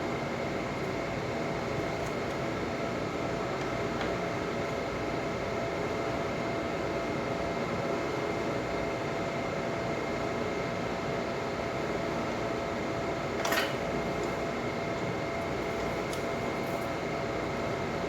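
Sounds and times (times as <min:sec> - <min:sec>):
background hum and hiss: 0:00.0 - 0:18.0.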